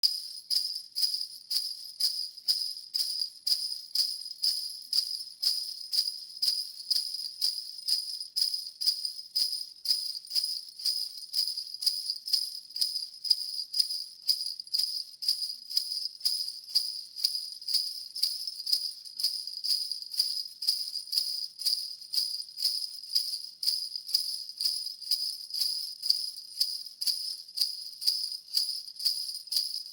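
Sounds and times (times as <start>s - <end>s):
sleigh bells shaken: 0.0s - 29.9s.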